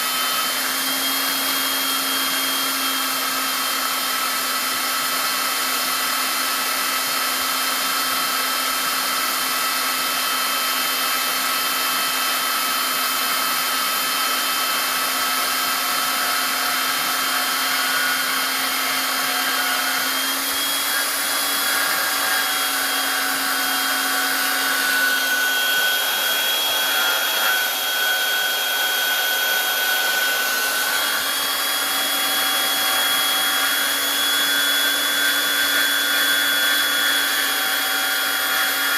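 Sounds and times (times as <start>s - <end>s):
bandsaw motor hum: 0.0s - 38.9s
saw blade cutting metal: 0.0s - 38.9s.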